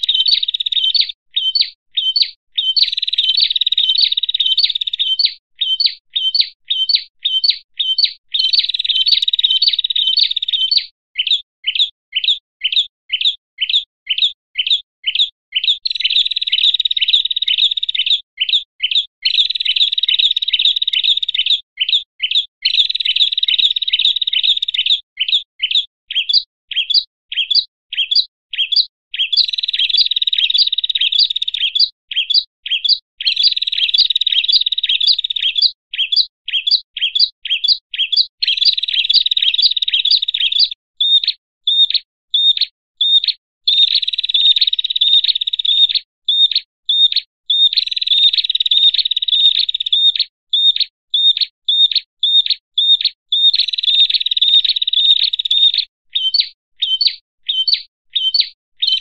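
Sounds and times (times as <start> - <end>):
songbirds chattering: 0.0 - 59.0.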